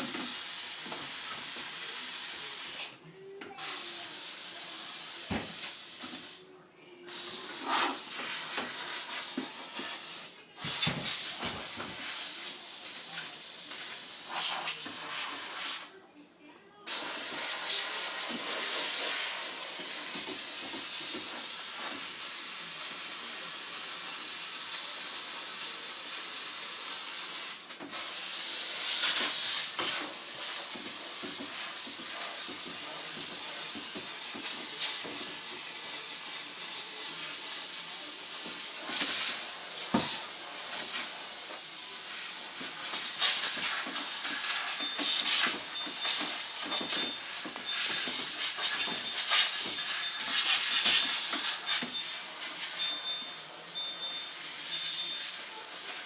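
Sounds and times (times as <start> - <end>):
steam cleaner hissing: 0.0 - 3.0, 3.6 - 6.5, 7.1 - 15.9, 16.9 - 56.0.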